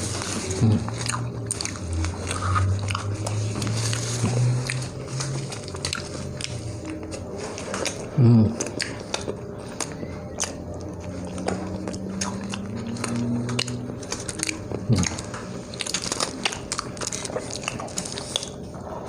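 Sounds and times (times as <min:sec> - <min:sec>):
biting and chewing: 0:00.0 - 0:19.0.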